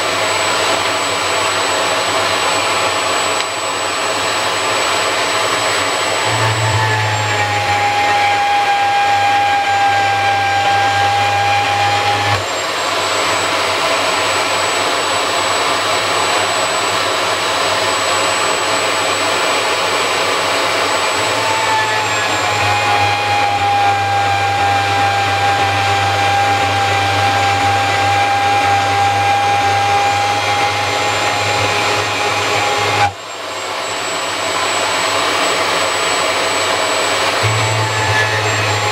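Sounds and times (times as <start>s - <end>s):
band saw cutting steel: 0.0s - 38.9s
steady machine whine: 0.0s - 38.9s.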